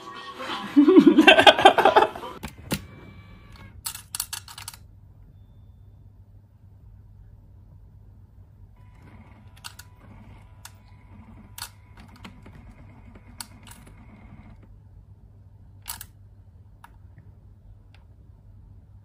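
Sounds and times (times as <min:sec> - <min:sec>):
faint hum: 0:00.8 - 0:19.0.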